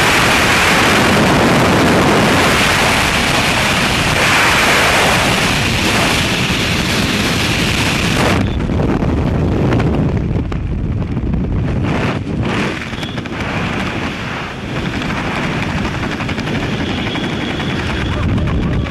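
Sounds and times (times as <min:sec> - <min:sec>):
freefall wind noise: 0:00.0 - 0:18.9
wind buffeting: 0:00.0 - 0:18.9.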